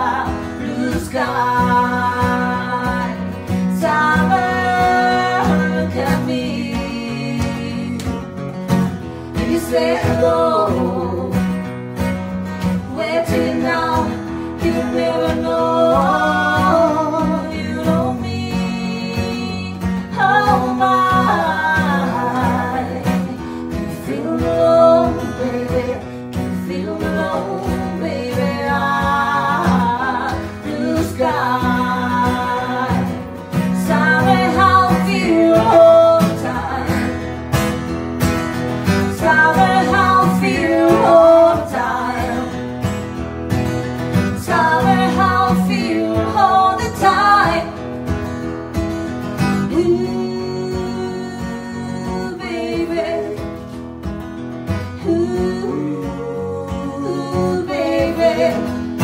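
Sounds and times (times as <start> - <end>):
woman singing: 0.0 - 11.8, 12.6 - 37.9, 38.8 - 43.1, 44.1 - 48.0, 49.4 - 53.8, 54.7 - 59.0
acoustic guitar: 0.0 - 59.0.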